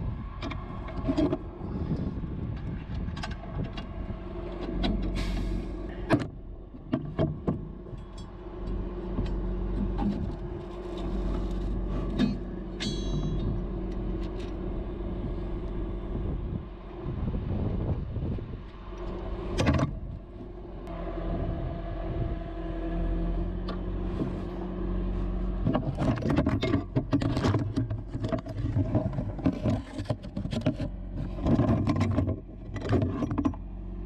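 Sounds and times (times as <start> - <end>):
truck engine droning: 0.0 - 34.0.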